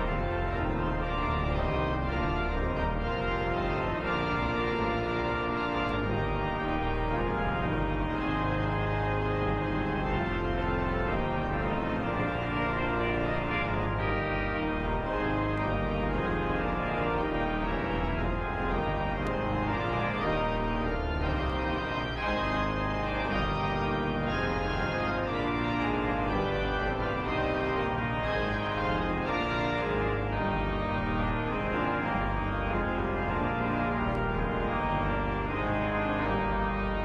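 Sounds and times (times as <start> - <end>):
church organ chords: 0.0 - 37.0
deep organ pedal bass notes: 0.0 - 37.0.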